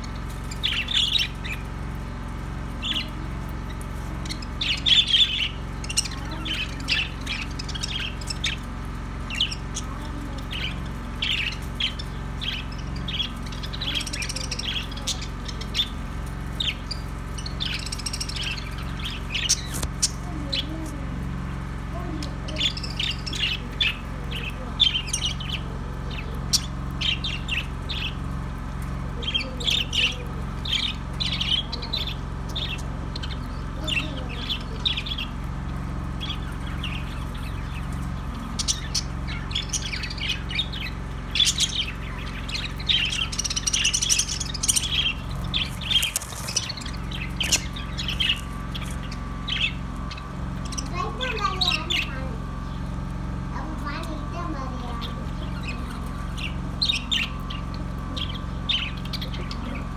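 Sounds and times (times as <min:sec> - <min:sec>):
budgerigars chirping and squawking: 0:00.0 - 0:21.2, 0:22.0 - 0:59.9
low hum: 0:00.0 - 0:59.9.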